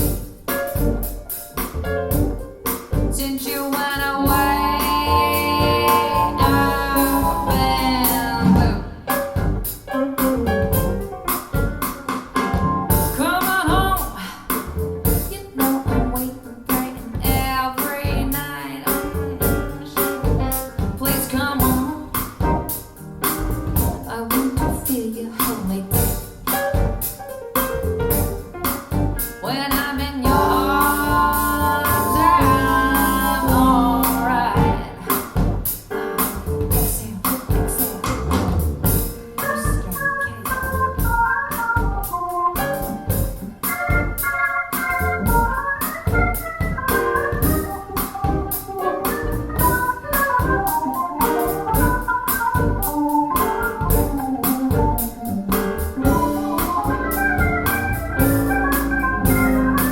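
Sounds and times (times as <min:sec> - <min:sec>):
music with keyboard chords: 0:00.0 - 0:14.1, 0:25.9 - 0:59.9.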